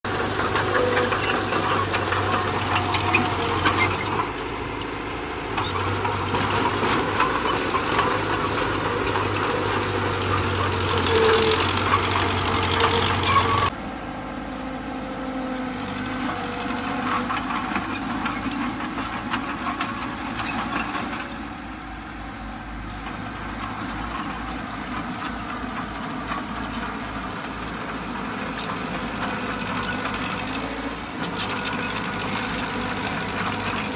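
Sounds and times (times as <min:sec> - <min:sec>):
bulldozer engine drone with clatter: 0:00.0 - 0:33.9.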